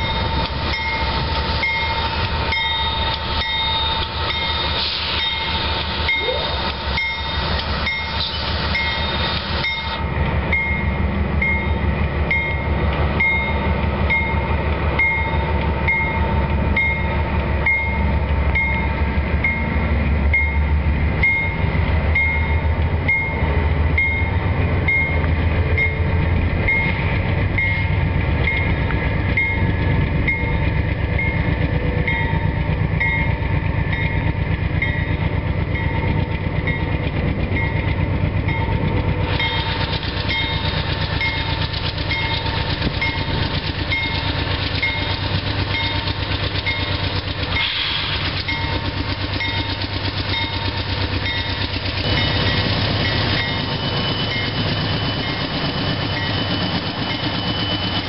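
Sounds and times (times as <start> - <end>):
diesel locomotive engines rumbling: 0.0 - 58.0.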